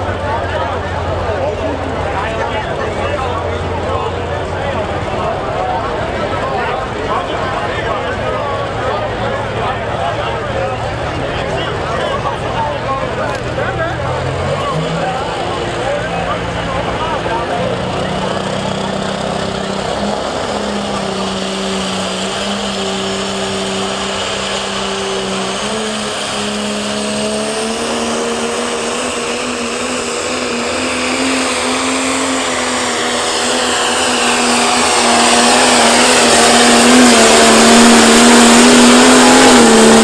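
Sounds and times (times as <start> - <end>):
diesel tractor engine under load: 0.0 - 40.0.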